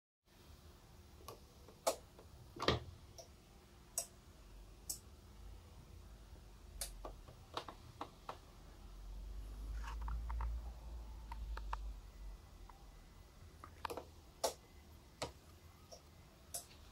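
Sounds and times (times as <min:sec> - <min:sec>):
quiet hiss: 0:00.3 - 0:16.9.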